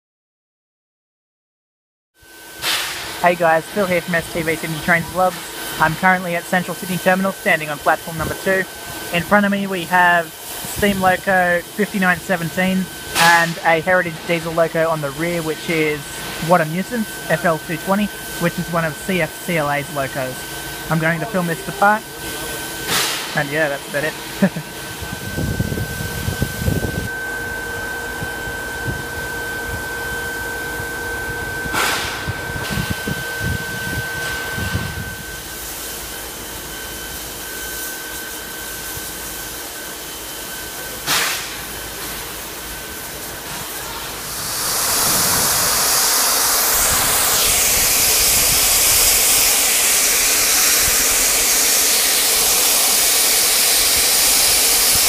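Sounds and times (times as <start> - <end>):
steam hissing: 2.3 - 55.0
loud steam blast: 2.4 - 55.0.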